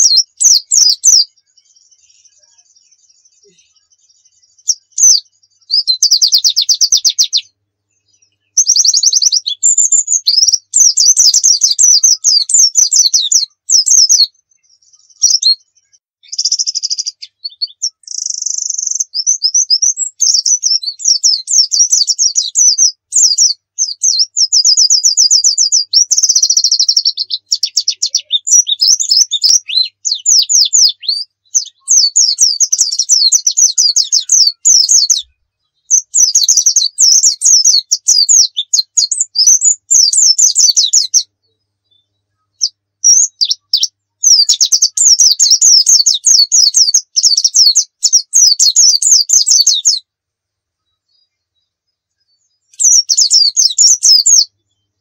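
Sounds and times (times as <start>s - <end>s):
bird trilling song: 0.0s - 50.1s, 50.8s - 55.0s.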